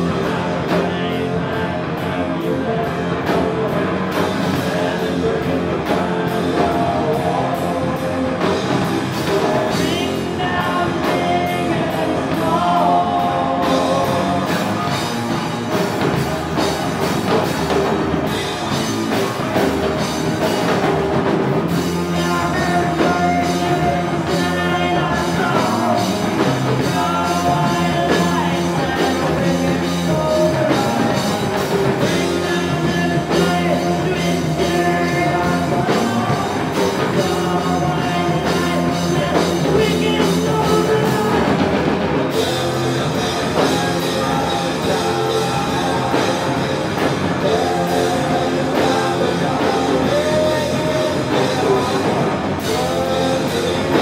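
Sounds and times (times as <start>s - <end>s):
distorted electric guitar: 0.0s - 54.0s
drum kit with crashing cymbals: 0.0s - 54.0s
person singing: 0.0s - 54.0s.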